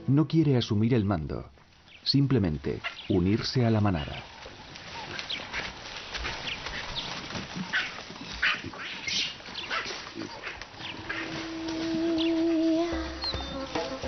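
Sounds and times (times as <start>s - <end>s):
outdoor hiss: 0.0s - 14.0s.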